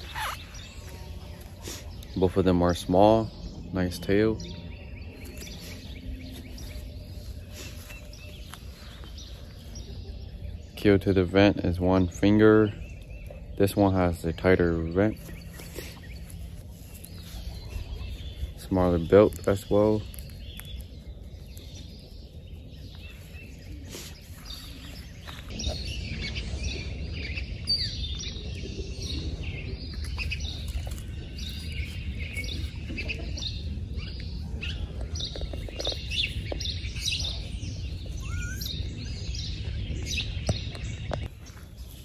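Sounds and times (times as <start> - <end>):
birds chirping: 0.0 - 42.0
steady low rumble: 0.0 - 42.0.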